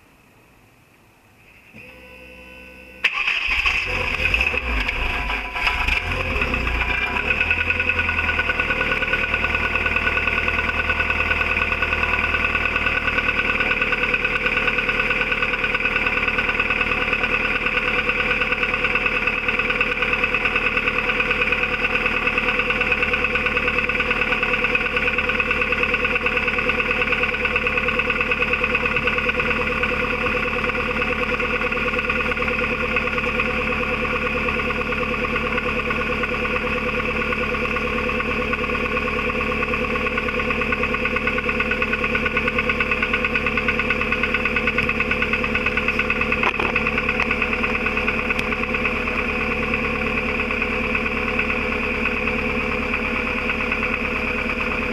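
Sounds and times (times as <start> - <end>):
car engine idling: 3.0 - 54.9.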